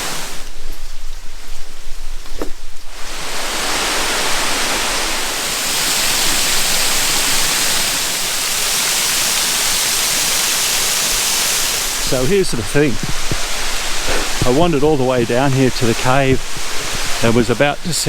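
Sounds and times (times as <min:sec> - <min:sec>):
waterfall rushing over rocks: 0:00.0 - 0:00.7, 0:02.8 - 0:18.0.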